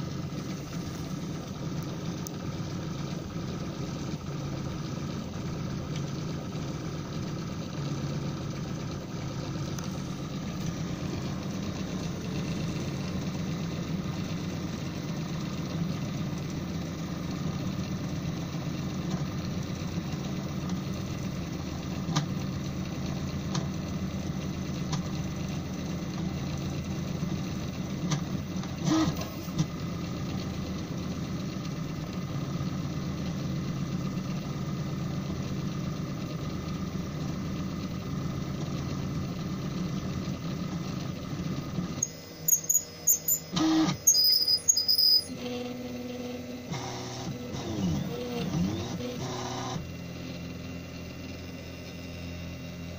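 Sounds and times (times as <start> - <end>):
three d printer motors droning: 0.0 - 52.9.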